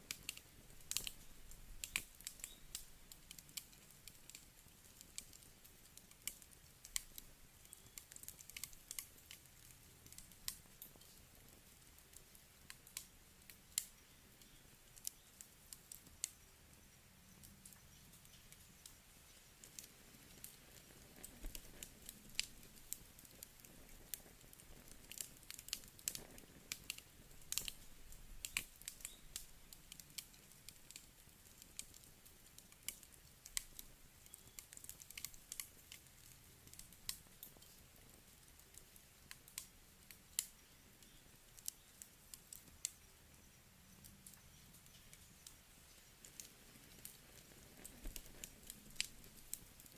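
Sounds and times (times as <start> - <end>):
campfire crackling: 0.0 - 49.9
faint hiss: 0.0 - 49.9.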